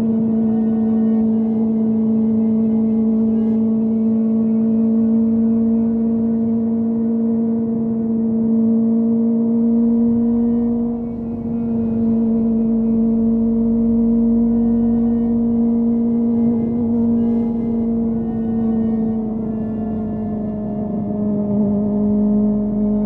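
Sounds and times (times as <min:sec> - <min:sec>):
motorcycle engine cruising: 0:00.0 - 0:23.0
wind and road noise: 0:00.0 - 0:23.0.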